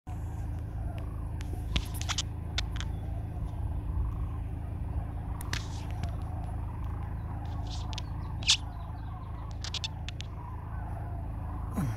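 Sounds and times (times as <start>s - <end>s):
low rumble with faint hum: 0.1s - 11.9s.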